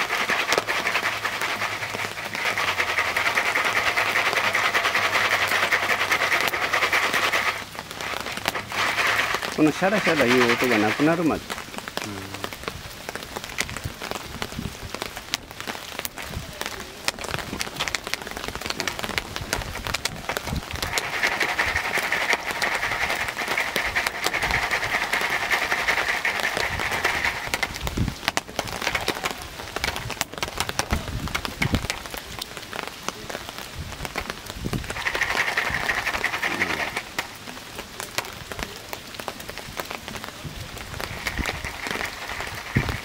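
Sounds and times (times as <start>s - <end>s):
hissing rattle inside foil: 0.0s - 11.7s, 16.0s - 32.1s, 33.8s - 38.9s, 40.0s - 43.0s
popcorn kernels popping: 0.0s - 12.5s, 16.9s - 32.3s, 34.1s - 39.0s, 40.8s - 43.0s.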